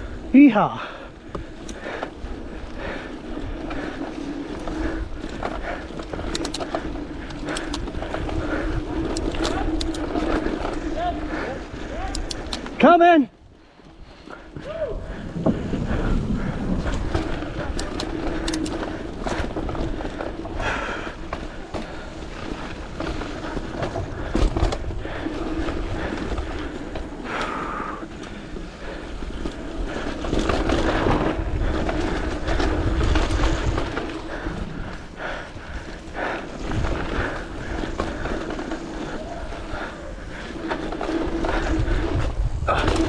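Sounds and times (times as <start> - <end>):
bike knocking and rattling: 0.0 - 13.1, 13.9 - 43.0
bike tyres rolling on trail: 0.0 - 43.0.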